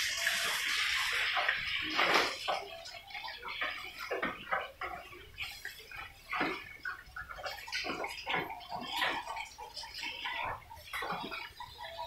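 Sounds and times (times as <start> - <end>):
pigs grunting and snuffling: 1.8 - 12.0.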